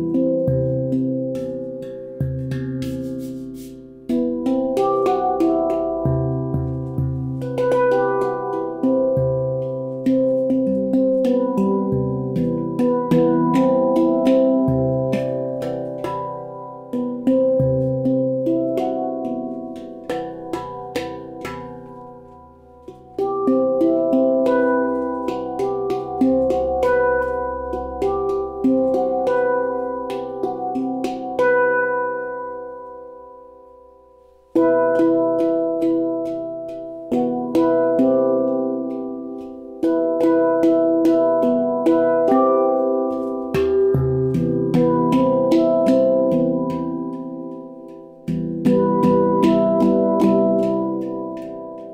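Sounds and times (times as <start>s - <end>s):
handpan notes ringing: 0.0s - 51.9s.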